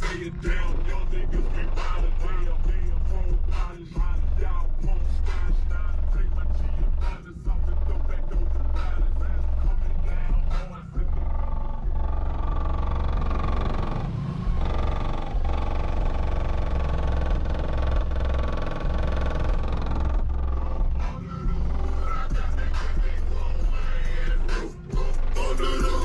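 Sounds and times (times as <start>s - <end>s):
heavy hip-hop bass: 0.0s - 26.0s.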